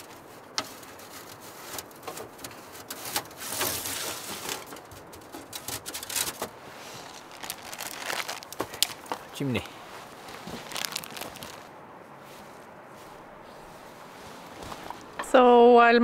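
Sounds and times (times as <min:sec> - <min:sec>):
rustling metal scrape: 0:00.0 - 0:09.2, 0:09.8 - 0:15.3.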